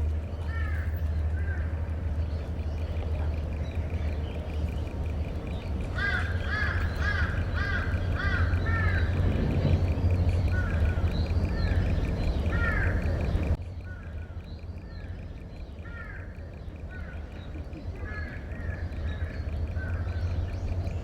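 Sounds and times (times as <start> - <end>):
bird calls: 0.0 - 21.0
steady low rumble: 0.0 - 21.0.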